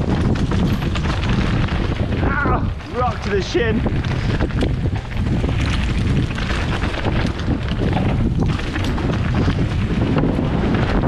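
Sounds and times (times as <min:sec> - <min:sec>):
bike rattling: 0:00.0 - 0:11.0
tyres rumbling over stones: 0:00.0 - 0:11.0
wind buffeting microphone: 0:00.0 - 0:11.0.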